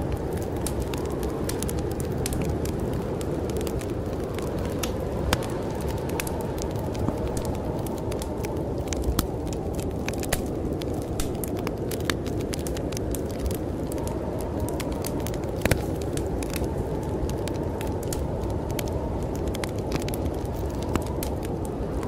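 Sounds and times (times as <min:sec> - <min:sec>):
storm wind rushing: 0:00.0 - 0:22.0
wood fire crackling and popping: 0:00.0 - 0:22.0.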